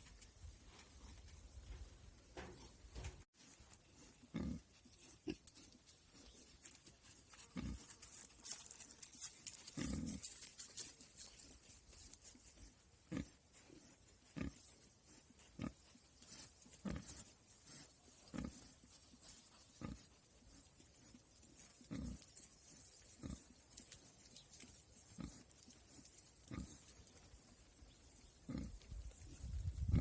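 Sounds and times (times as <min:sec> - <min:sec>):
crackling rustle: 0:00.0 - 0:29.8.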